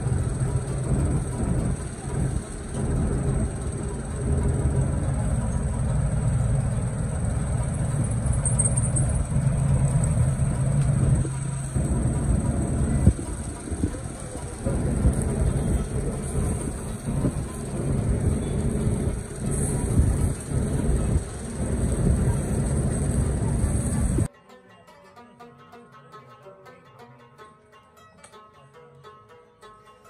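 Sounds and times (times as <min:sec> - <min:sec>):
low motor-like hum: 0:00.0 - 0:24.3.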